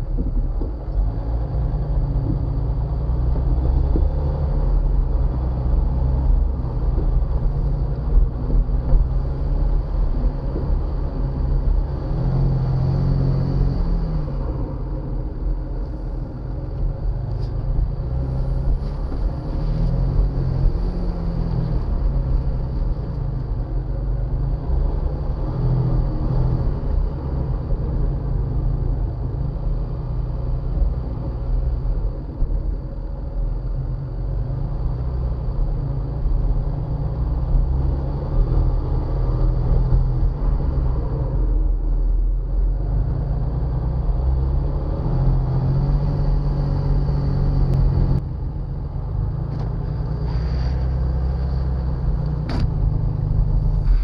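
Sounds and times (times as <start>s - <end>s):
engine rumbling under load: 0.0s - 54.0s.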